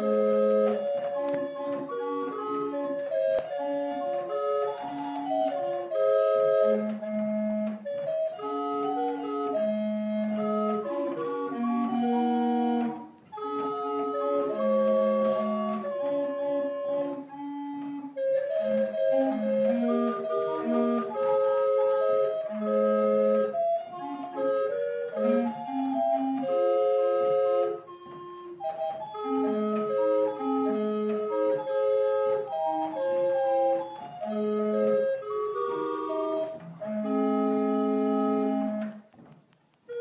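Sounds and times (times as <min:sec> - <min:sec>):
barrel organ playing a tune: 0:00.0 - 0:39.2, 0:39.8 - 0:40.0.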